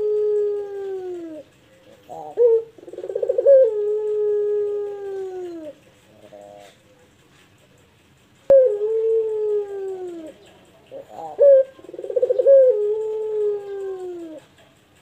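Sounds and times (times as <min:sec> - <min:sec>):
dove cooing: 0:00.0 - 0:07.2, 0:08.5 - 0:15.0.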